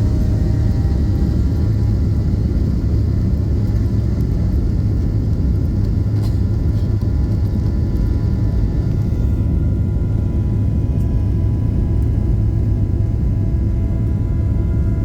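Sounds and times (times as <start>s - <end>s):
jet engines deep rumble: 0.0s - 15.0s.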